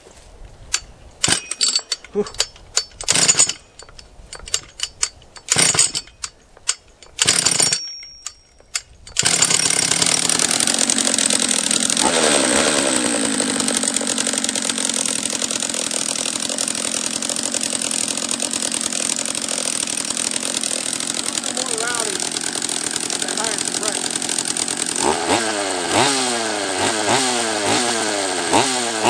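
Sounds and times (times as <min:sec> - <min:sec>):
starter cord pulls rattling: 0:00.7 - 0:26.1
chainsaw engine running: 0:01.2 - 0:29.0.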